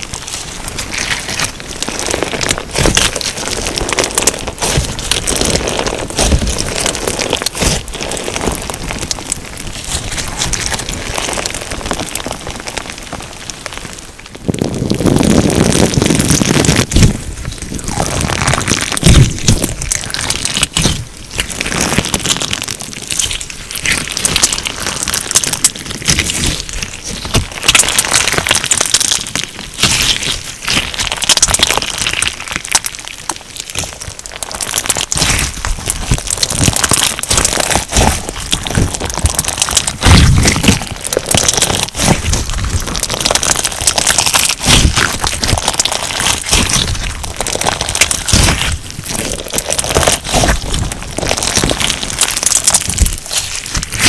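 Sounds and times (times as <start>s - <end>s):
slime beads crackling: 0.0s - 54.0s.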